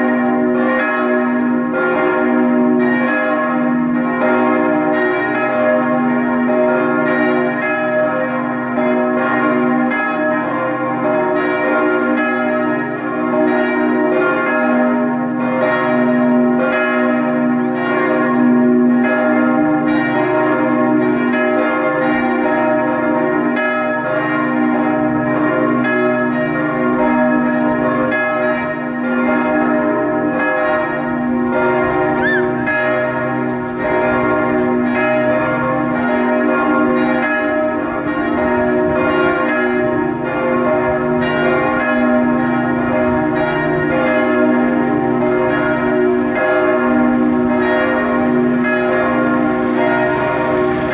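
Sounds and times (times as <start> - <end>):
church bells ringing: 0.0 - 50.9.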